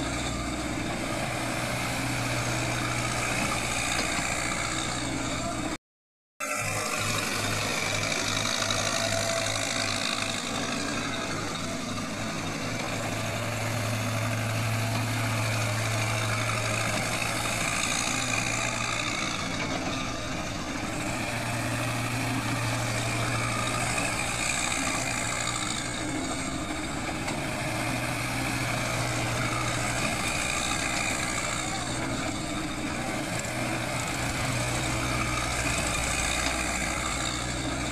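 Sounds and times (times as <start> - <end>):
diesel engine running: 0.0 - 5.8, 6.4 - 37.9.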